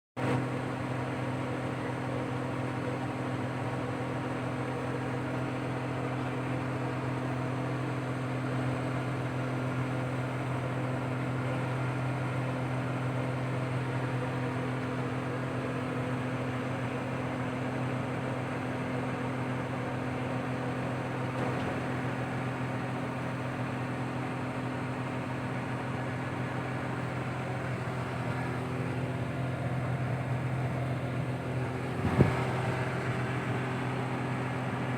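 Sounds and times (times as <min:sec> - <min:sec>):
low machine hum: 0:00.2 - 0:34.9.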